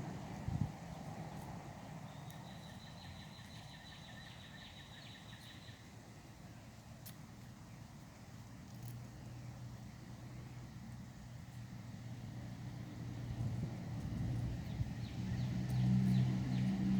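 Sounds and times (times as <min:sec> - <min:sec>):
faint outdoor ambience: 0:00.0 - 0:16.9.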